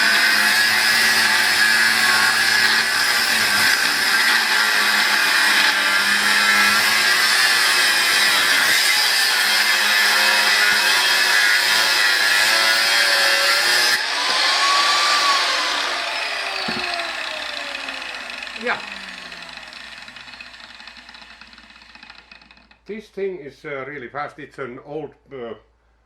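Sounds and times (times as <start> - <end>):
grinder motor whine winding down: 0.0 - 9.1, 10.0 - 22.5
angle grinder cutting metal: 0.0 - 22.8.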